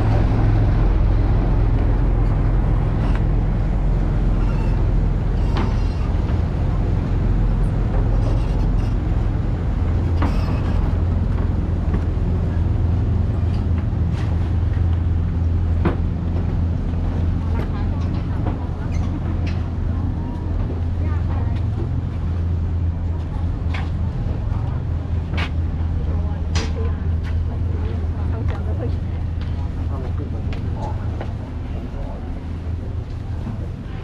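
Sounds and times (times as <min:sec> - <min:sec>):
large engine droning: 0:00.0 - 0:34.0.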